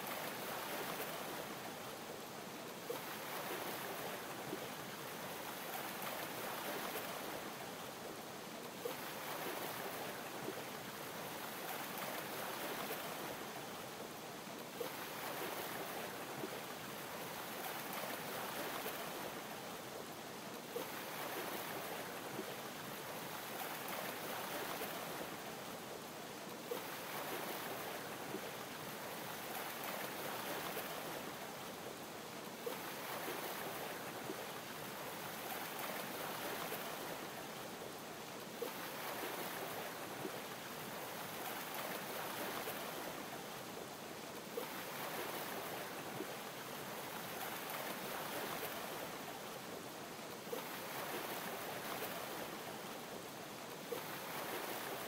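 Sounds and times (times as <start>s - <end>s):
water lapping: 2.9s - 7.6s, 8.8s - 13.6s, 14.7s - 19.8s, 20.6s - 25.6s, 26.5s - 31.8s, 32.4s - 37.8s, 38.4s - 49.6s, 50.3s - 53.1s, 53.7s - 55.0s.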